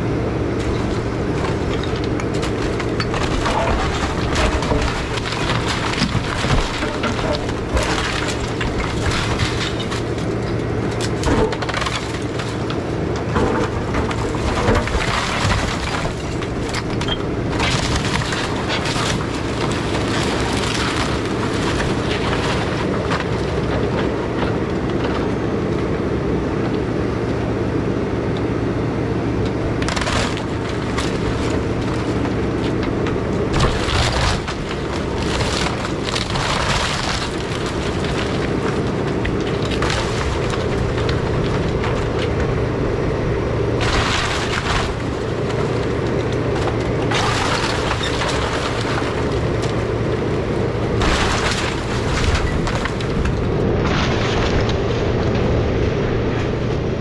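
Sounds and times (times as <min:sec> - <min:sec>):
excavator diesel engine running: 0:00.0 - 0:57.0
timber cracking and crashing: 0:00.5 - 0:25.3, 0:29.7 - 0:56.8.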